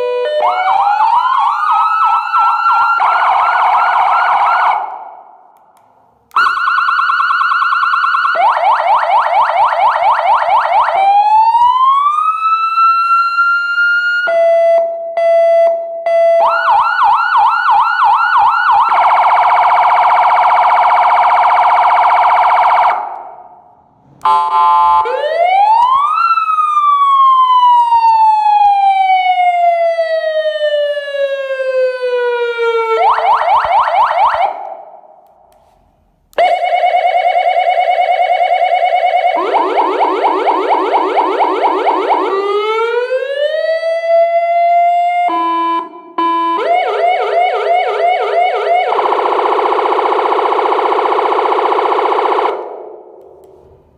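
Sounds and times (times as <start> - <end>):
electronic alarm siren: 0.0 - 5.0, 6.3 - 23.3, 24.2 - 34.8, 36.4 - 52.8.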